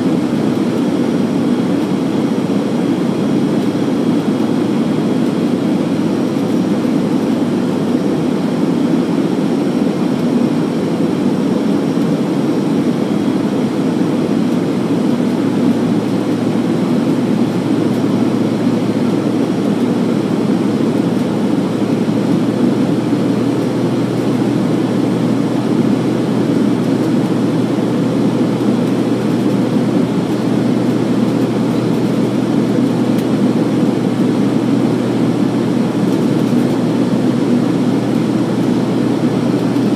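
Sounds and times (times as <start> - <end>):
aircraft cabin engine noise: 0.0 - 39.9
constant low hum: 0.0 - 39.9.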